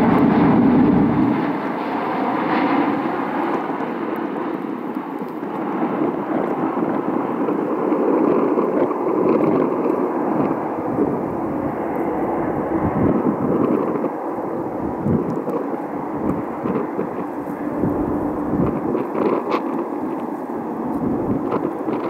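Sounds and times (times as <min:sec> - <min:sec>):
jet engines: 0:00.0 - 0:22.0.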